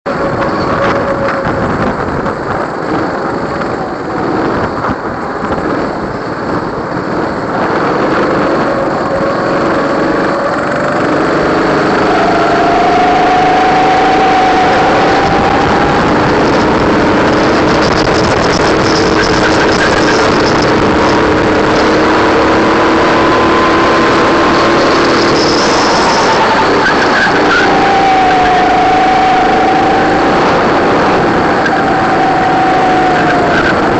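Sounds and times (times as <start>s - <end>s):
go-kart engines droning: 0.0s - 33.9s.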